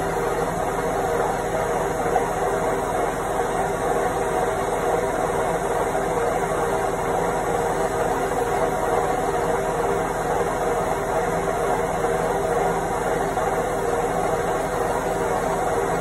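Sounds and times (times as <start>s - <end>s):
washing machine drum spinning: 0.0s - 16.0s.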